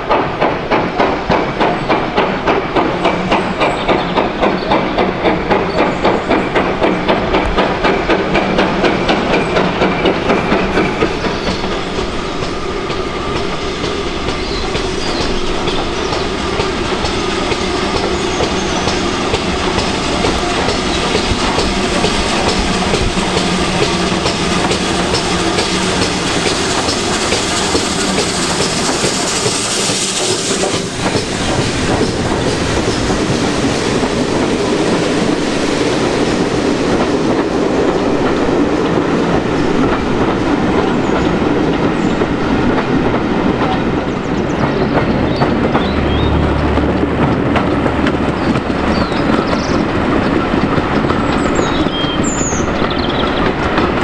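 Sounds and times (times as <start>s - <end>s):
steam locomotive exhaust beats: 0.0s - 54.0s
train rumbling and rattling: 0.0s - 54.0s
wheels clacking over rail joints: 0.0s - 54.0s.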